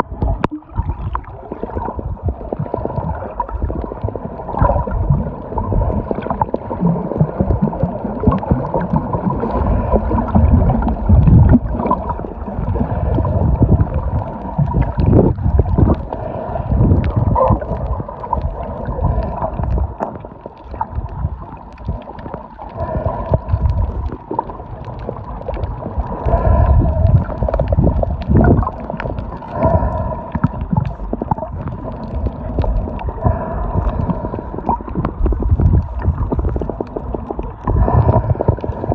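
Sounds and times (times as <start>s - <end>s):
faint steady hum: 0.0s - 38.9s
water sloshing and gurgling underwater: 0.0s - 38.9s.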